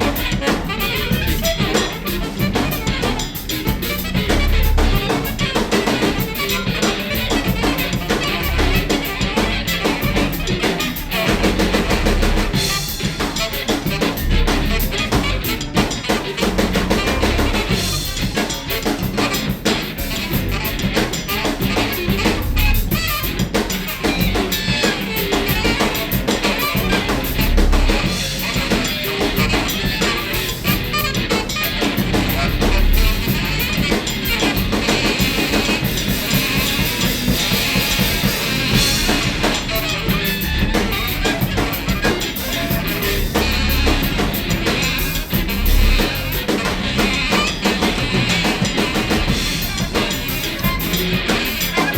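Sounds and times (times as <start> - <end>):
busy drum kit: 0.0 - 51.9
free jazz band playing: 0.0 - 51.9.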